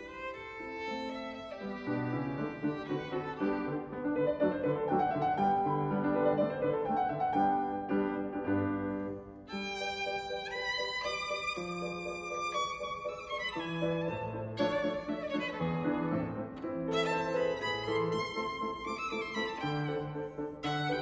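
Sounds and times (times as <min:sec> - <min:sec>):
solo violin: 0:00.0 - 0:06.2, 0:07.1 - 0:21.0
piano accompaniment: 0:00.0 - 0:21.0.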